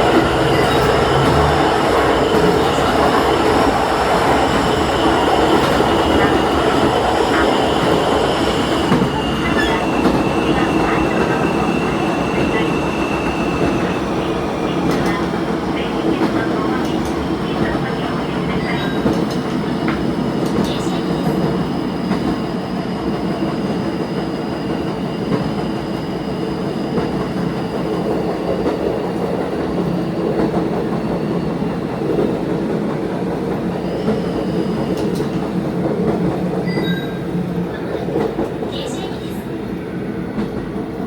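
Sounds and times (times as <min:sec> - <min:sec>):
railcar engine drone: 0:00.0 - 0:41.0.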